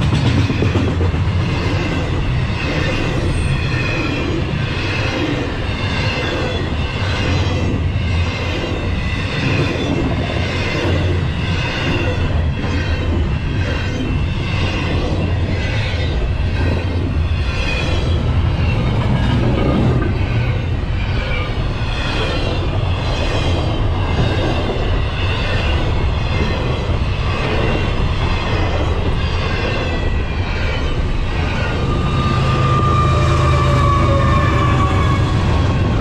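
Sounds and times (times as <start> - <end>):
freight train wheels on rails: 0.0 - 36.0
locomotive whine: 0.0 - 36.0.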